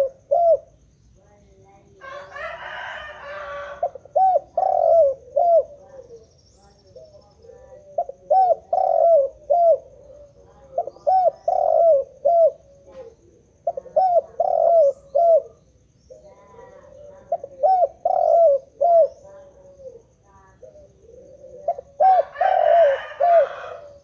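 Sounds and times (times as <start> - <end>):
dove cooing: 0.0 - 24.0.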